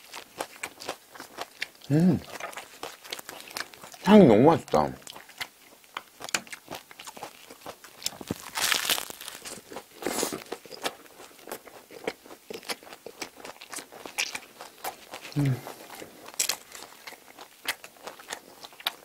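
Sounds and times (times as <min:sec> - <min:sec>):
crisp bread crunching: 0:00.0 - 0:04.0, 0:05.0 - 0:19.0.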